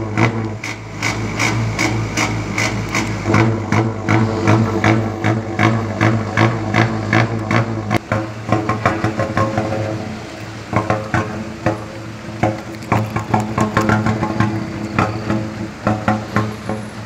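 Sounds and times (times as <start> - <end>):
truck exhaust droning with bursts: 0.0 - 17.0.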